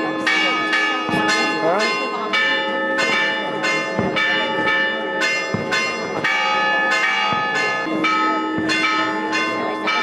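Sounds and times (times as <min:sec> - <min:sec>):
church bells ringing a peal: 0:00.0 - 0:10.0.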